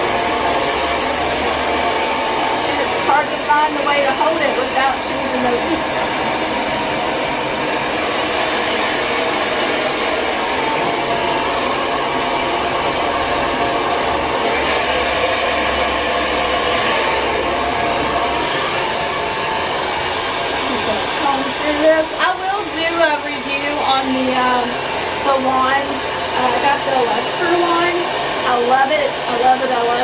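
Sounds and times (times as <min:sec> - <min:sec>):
hair dryer blowing air: 0:00.0 - 0:30.0.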